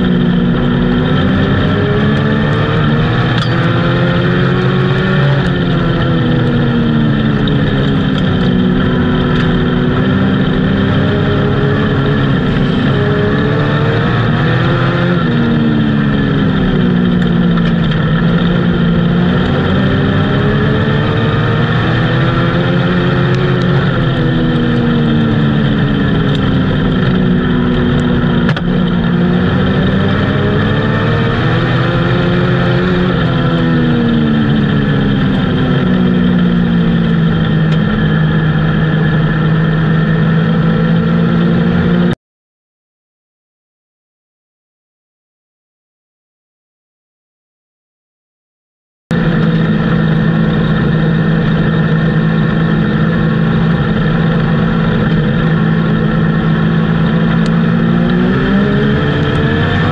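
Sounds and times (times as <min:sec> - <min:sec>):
race car engine: 0:00.0 - 0:42.2, 0:49.1 - 0:59.9.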